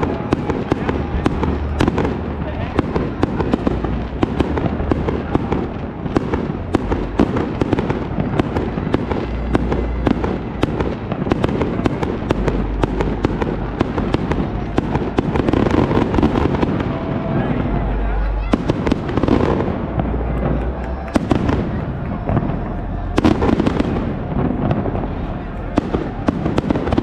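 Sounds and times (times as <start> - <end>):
low rumble: 0.0 - 26.6
fireworks cracking and popping: 0.0 - 27.0.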